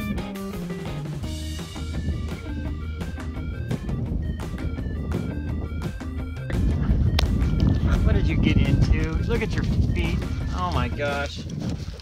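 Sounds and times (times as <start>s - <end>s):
background music with drum beat: 0.0s - 11.2s.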